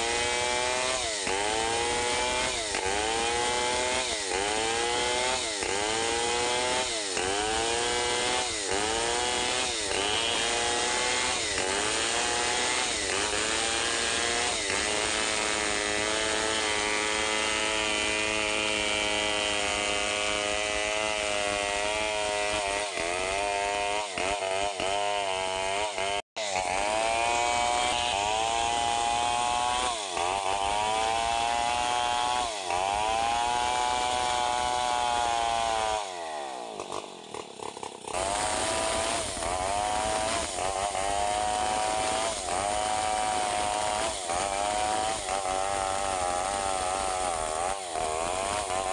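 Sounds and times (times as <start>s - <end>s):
chainsaw cutting a log: 0.0s - 48.9s.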